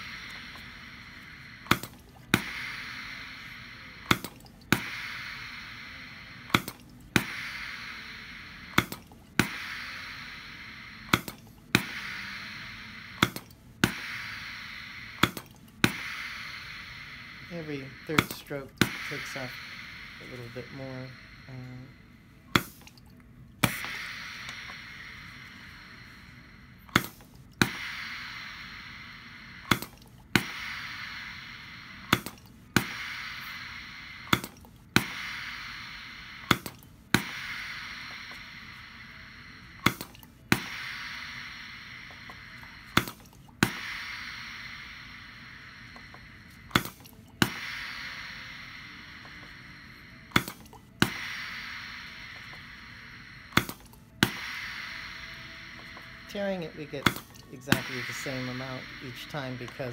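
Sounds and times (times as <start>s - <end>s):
filling machine clicks: 0.0s - 59.9s
filling machine hiss: 0.0s - 59.9s.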